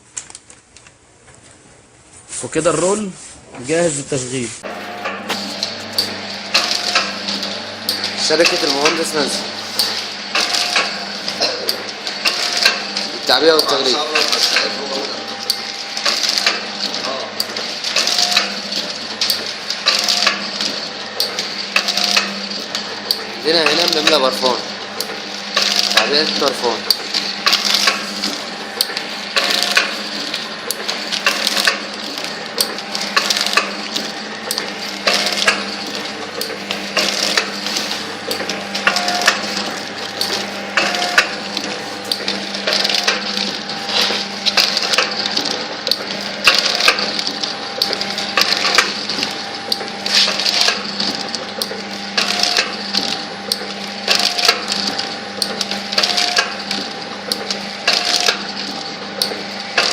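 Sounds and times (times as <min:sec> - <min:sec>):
filling machine clattering: 0:04.8 - 0:59.9.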